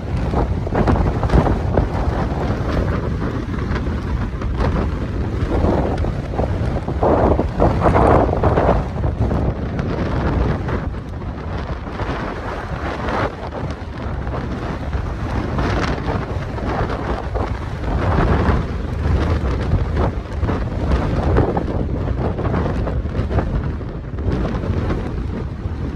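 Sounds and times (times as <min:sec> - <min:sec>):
gusty wind buffeting microphone: 0:00.0 - 0:25.9.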